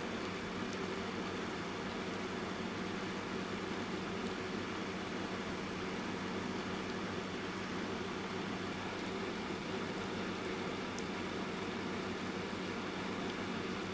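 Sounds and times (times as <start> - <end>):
soft light rain: 0.1 - 13.9.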